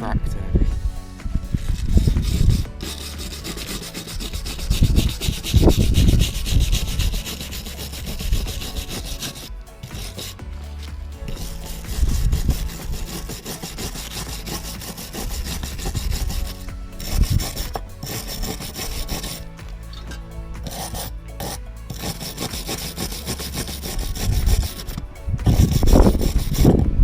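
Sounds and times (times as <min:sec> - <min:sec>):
brush scraping rust off metal: 0:01.6 - 0:26.8.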